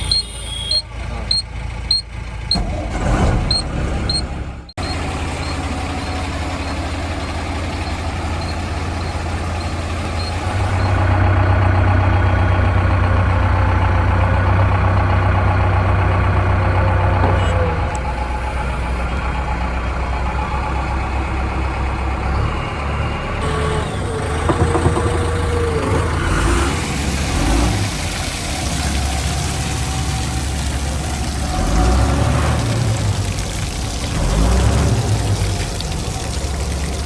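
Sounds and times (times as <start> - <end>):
backhoe diesel engine running: 0.0 - 37.0.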